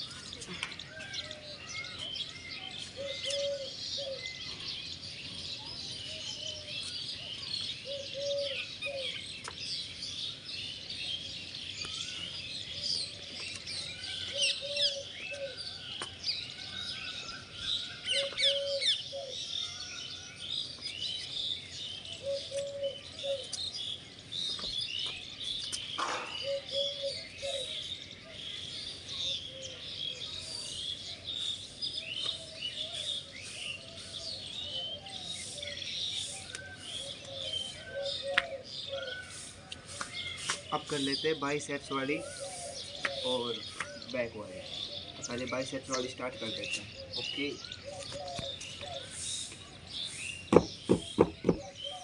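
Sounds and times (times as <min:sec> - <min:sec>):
small birds chirping and twittering: 0:00.0 - 0:52.0.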